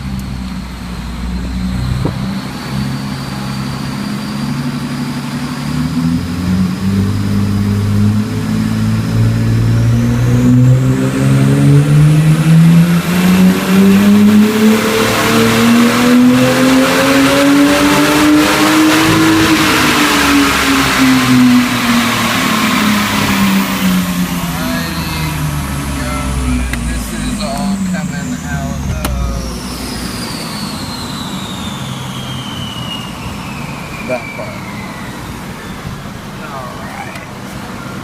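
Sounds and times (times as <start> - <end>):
car engine revving: 0.0 - 38.0
high whine: 0.0 - 38.0.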